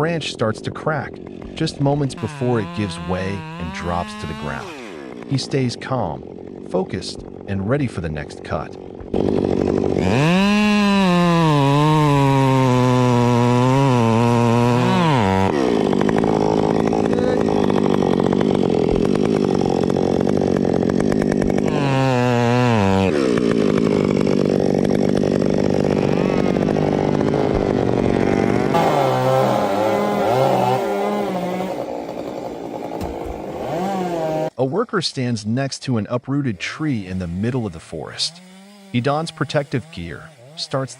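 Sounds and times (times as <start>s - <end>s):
chainsaw cutting wood: 0.0s - 34.6s, 36.3s - 40.9s.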